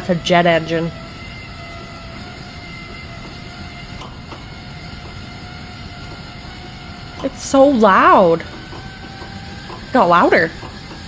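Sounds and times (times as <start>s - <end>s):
computer fans whooshing: 0.0s - 11.0s
faint whining tones: 0.0s - 11.0s.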